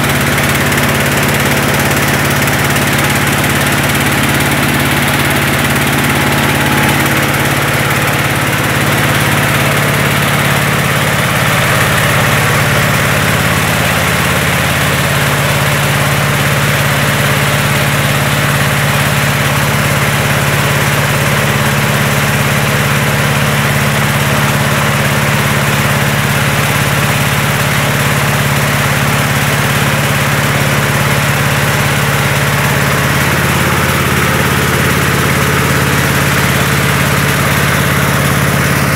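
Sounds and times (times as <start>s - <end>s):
engine hum: 0.0s - 38.9s.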